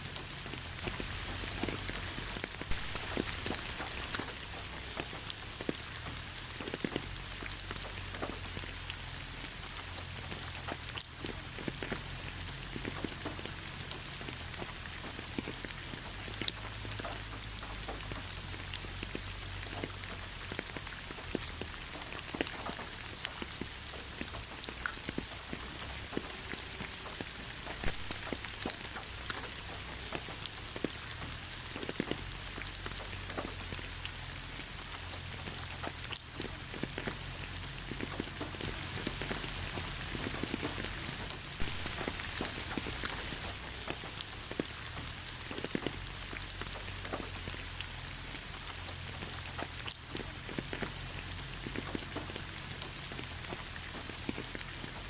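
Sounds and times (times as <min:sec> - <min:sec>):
rain drops ticking: 0:00.0 - 0:55.0
rain hiss: 0:00.0 - 0:55.0.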